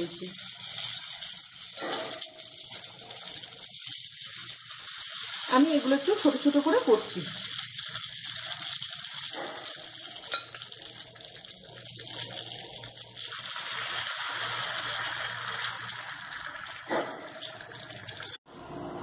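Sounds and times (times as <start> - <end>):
batter sizzling in hot oil: 0.0 - 19.0.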